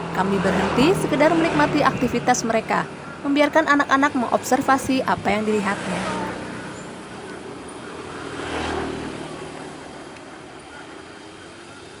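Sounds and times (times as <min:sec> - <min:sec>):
vehicle passing with low rumble: 0:00.0 - 0:12.0.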